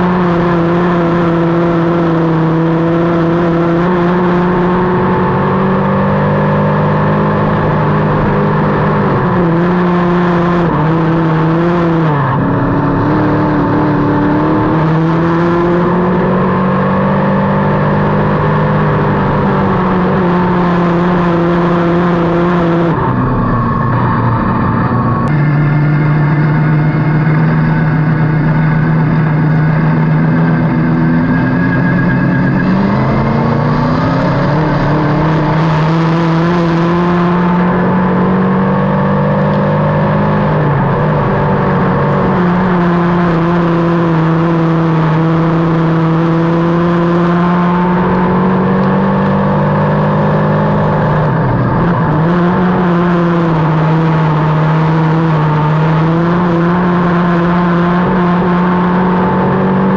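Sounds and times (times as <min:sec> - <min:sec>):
race car engine: 0:00.0 - 0:59.9.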